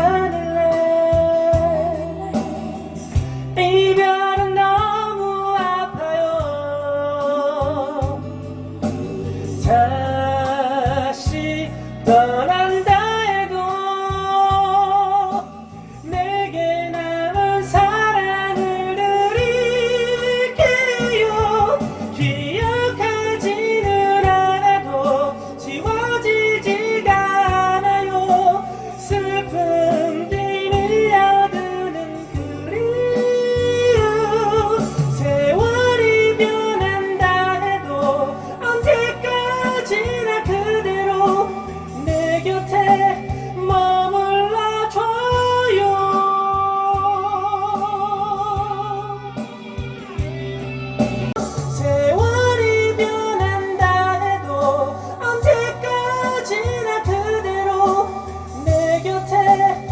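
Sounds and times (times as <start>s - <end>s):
backing track with guitar: 0.0s - 59.9s
person singing karaoke: 0.0s - 59.9s.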